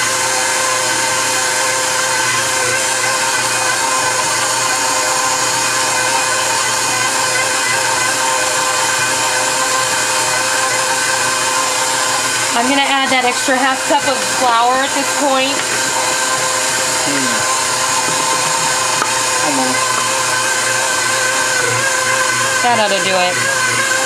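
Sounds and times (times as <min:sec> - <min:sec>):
stand mixer motor humming: 0:00.0 - 0:24.0.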